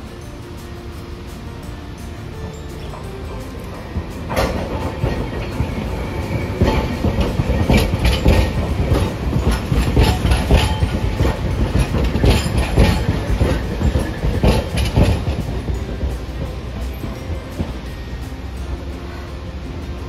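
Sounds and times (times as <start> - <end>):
streetcar rumbling: 0.0 - 20.0
wheels clacking over rail joints: 0.0 - 20.0.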